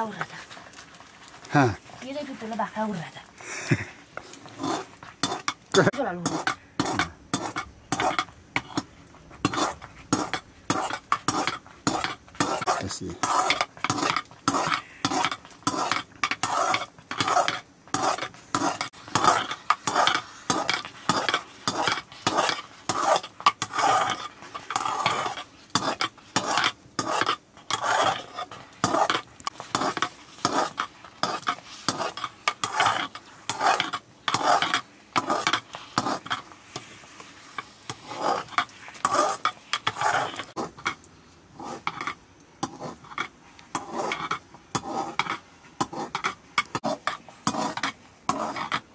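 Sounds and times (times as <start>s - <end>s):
metal spatula scraping pot: 4.2s - 48.9s.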